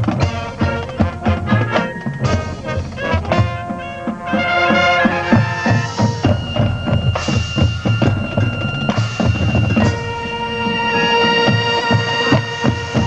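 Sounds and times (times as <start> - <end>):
brass holding chords: 0.0 - 13.0
marching drum strokes: 0.0 - 13.0.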